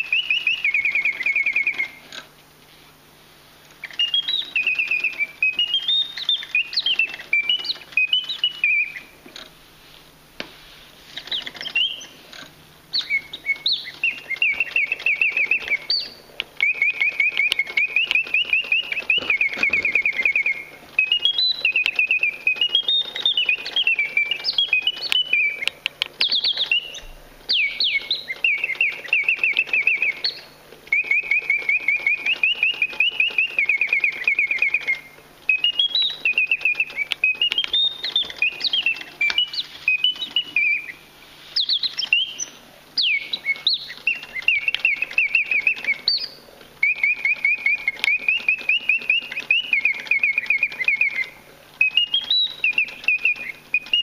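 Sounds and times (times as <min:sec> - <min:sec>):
mechanical birdsong whistle: 0:00.0 - 0:02.3, 0:03.8 - 0:09.2, 0:11.1 - 0:12.3, 0:12.9 - 0:54.0.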